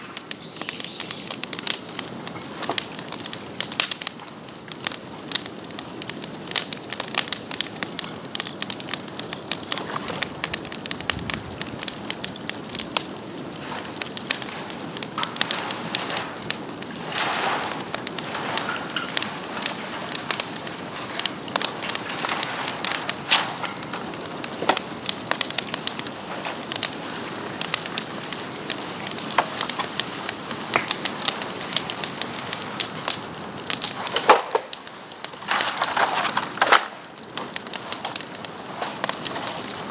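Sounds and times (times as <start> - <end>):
bonfire crackling and popping: 0.0 - 39.9
fire hissing: 0.0 - 39.9.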